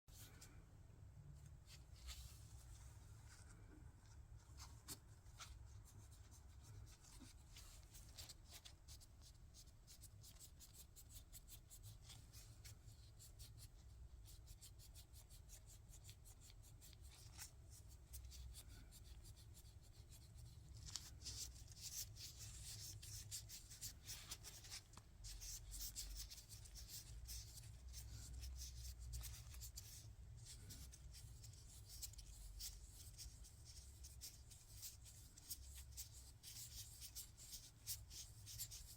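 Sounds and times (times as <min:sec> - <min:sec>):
close-up scratching and rubbing: 0:01.7 - 0:38.9.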